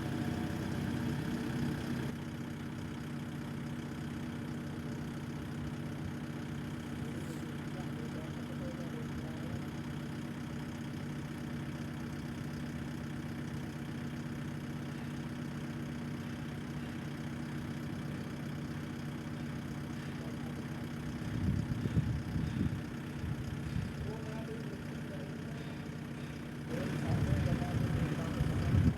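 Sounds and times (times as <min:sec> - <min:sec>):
engine idling: 0:00.0 - 0:28.9.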